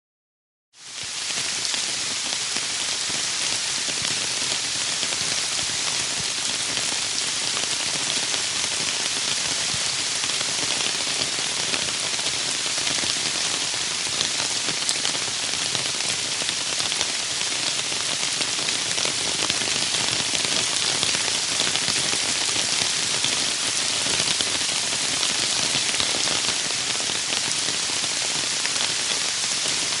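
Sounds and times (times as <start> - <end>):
rain on a metal roof: 0.8 - 30.0.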